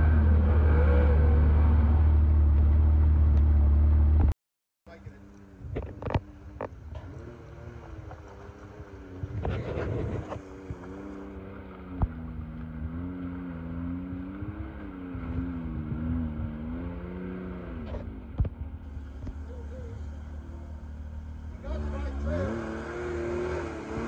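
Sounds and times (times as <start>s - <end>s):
vehicle engine at low revs: 0.0s - 24.0s.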